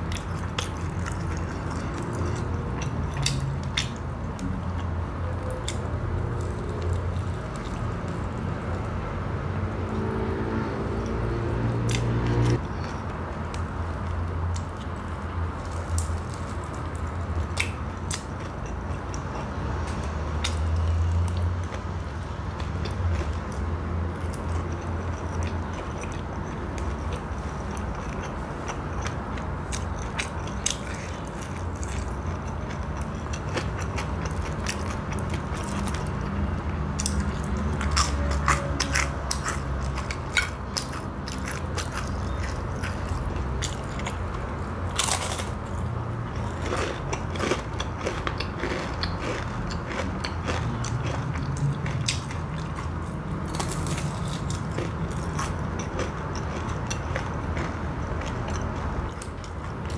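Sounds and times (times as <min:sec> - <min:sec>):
chewing crispy snacks: 0:00.0 - 0:08.9, 0:11.8 - 0:59.9.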